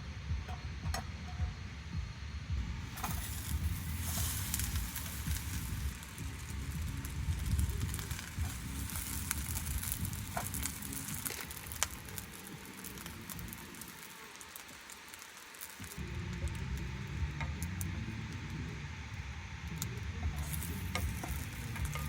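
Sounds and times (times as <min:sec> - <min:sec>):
low rumble: 0:00.0 - 0:12.3, 0:16.0 - 0:22.0
rice balls sizzling in a pan: 0:02.8 - 0:22.0.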